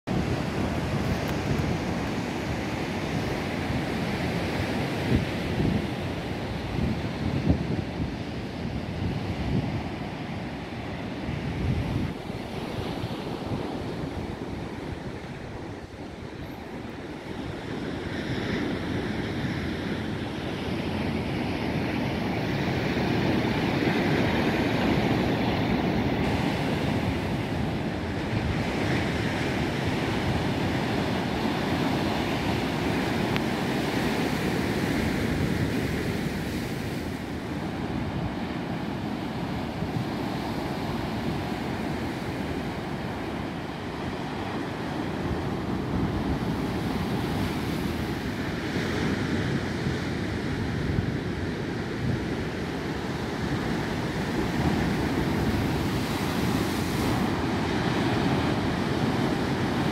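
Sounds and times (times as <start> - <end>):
wind on microphone: 0.1 - 59.9.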